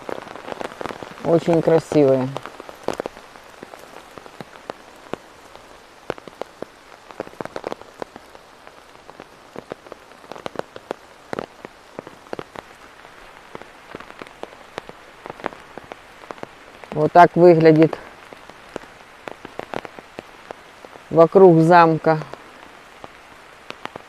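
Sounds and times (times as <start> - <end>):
raindrops tapping on umbrella: 0.0 - 24.0
steady rain hiss: 0.0 - 24.0.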